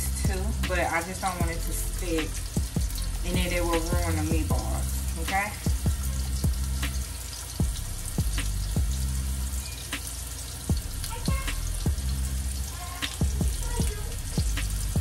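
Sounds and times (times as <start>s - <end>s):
meatballs sizzling in oil: 0.0s - 15.0s.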